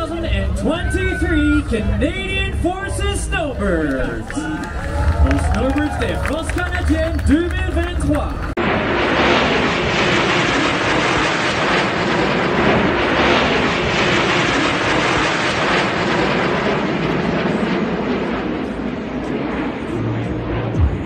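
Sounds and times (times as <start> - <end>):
jets flying overhead: 0.0 - 21.0.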